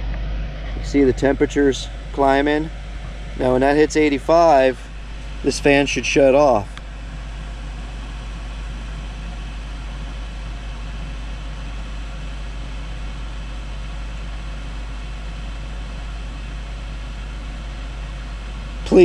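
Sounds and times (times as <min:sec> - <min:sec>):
duct fan air rush: 0:00.0 - 0:19.0
low fan hum: 0:00.0 - 0:19.0.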